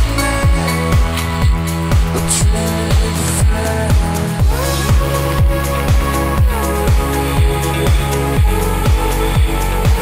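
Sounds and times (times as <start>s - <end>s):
kick drum: 0.0s - 10.0s
synth chords: 0.0s - 10.0s.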